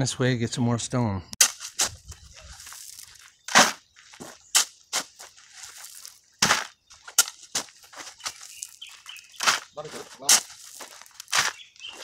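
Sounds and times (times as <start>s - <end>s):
shovel scraping crushed stone: 1.4s - 7.7s, 8.6s - 12.0s.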